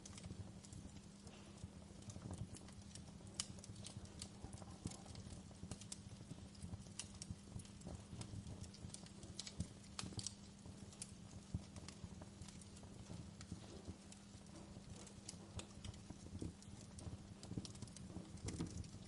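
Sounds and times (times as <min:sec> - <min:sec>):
campfire pops and snaps: 0:00.0 - 0:19.0
low rumble of burning fire: 0:00.0 - 0:19.0.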